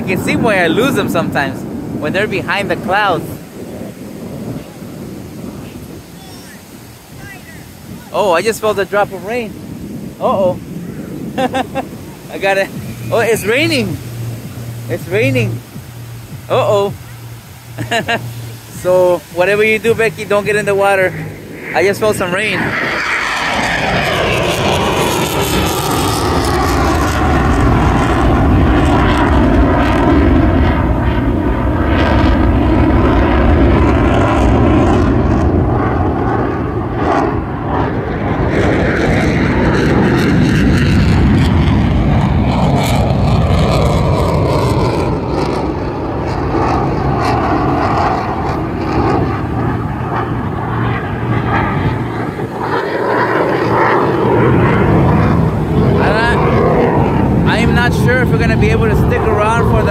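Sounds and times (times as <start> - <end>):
plane engine flying past: 0.0 - 59.9.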